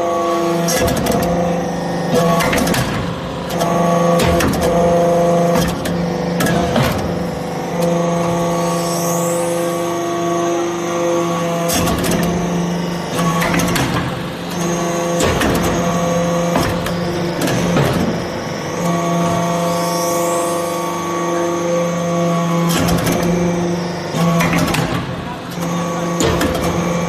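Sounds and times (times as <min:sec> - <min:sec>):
hydraulic pump humming: 0:00.0 - 0:27.0.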